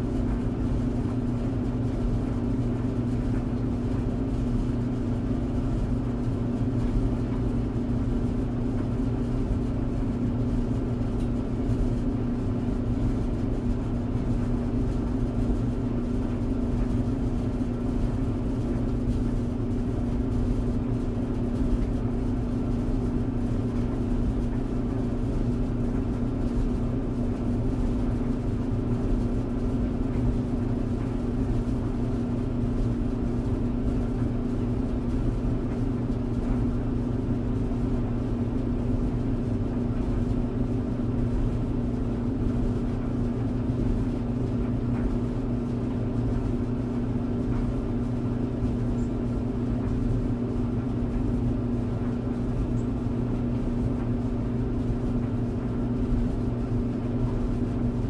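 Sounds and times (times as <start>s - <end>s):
tumble dryer running: 0.0s - 58.0s.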